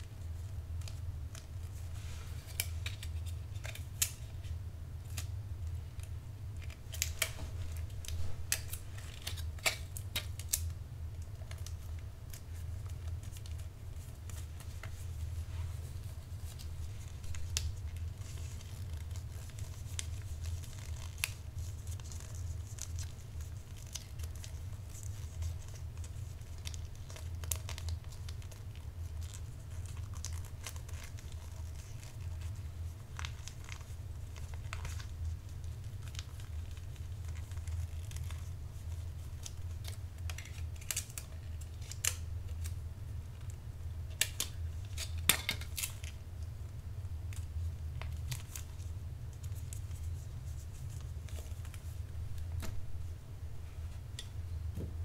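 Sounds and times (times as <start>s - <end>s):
wrapping paper crinkling: 0.0s - 53.1s
steady low hum: 0.0s - 55.0s.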